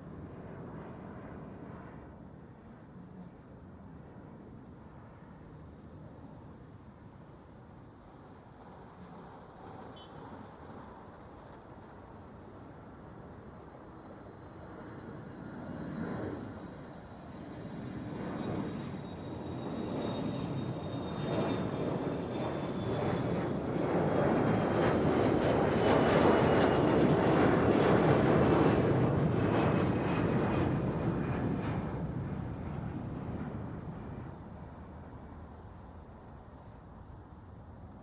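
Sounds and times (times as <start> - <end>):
airplane engines roaring: 0.0 - 38.0.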